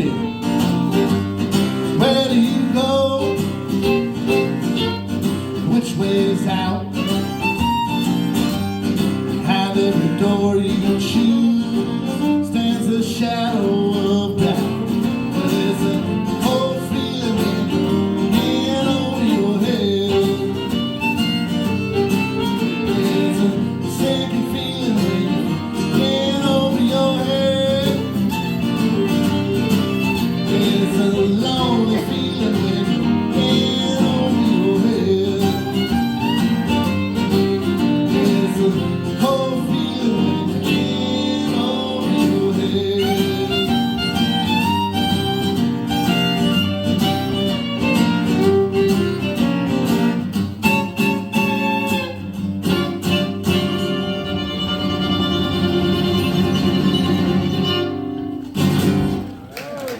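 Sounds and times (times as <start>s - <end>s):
fiddle solo: 0.0s - 58.4s
acoustic guitar accompaniment: 0.0s - 59.9s.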